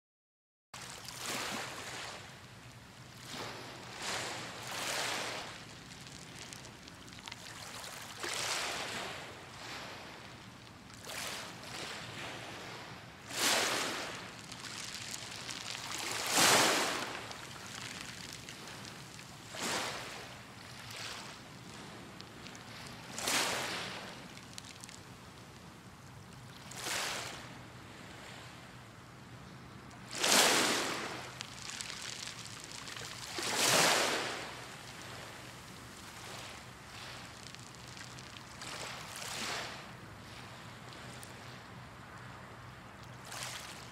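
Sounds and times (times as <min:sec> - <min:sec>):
small waves washing against shore: 0:00.8 - 0:43.9.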